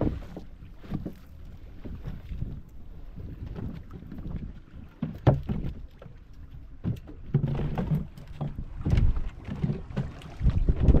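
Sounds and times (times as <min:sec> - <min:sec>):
knocks and thumps on hull: 0:00.0 - 0:11.0
wind and water rumble on microphone: 0:00.0 - 0:11.0.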